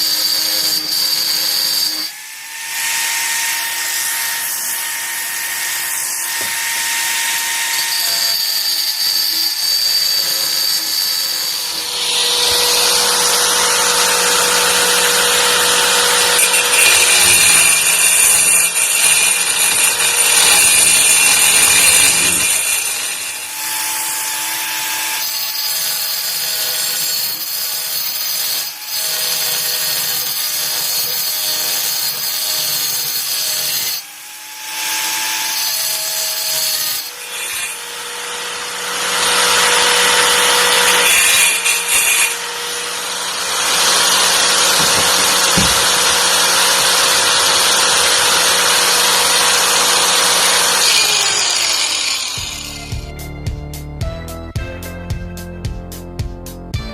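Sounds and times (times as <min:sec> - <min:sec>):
angle grinder motor whine: 0:00.0 - 0:32.8, 0:33.4 - 0:53.4
loud grinding: 0:00.0 - 0:53.3.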